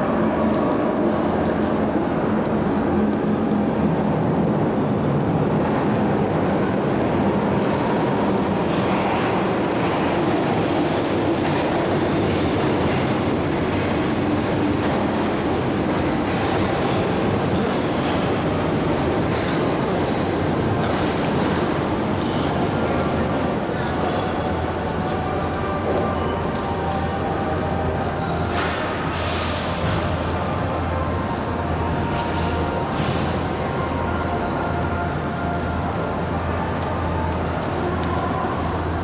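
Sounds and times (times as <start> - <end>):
metro train wheels rumbling: 0.0 - 39.0.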